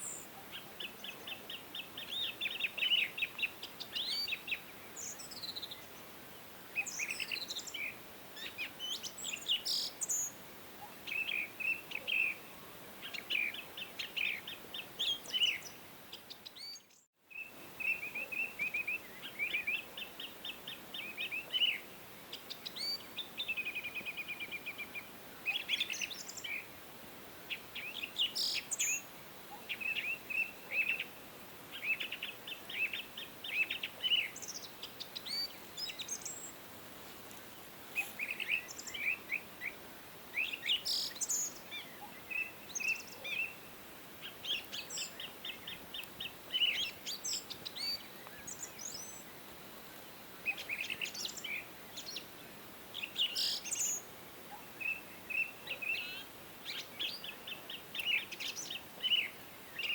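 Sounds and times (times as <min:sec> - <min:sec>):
faint background hiss: 0:00.0 - 0:59.9
songbirds chirping and trilling: 0:00.0 - 0:59.9.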